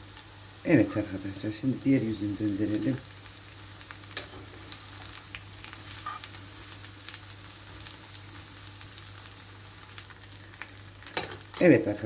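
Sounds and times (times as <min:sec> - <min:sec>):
steaks sizzling in a pan: 0:00.0 - 0:12.0.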